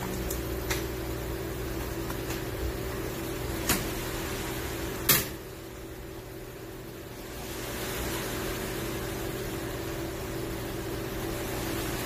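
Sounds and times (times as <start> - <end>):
machinery hum with hiss: 0.0 - 12.0.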